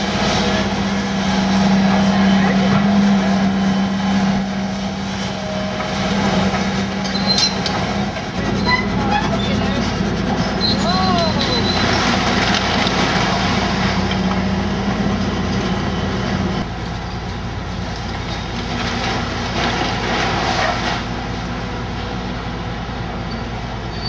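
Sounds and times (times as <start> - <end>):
diesel machinery running: 0.0 - 24.0.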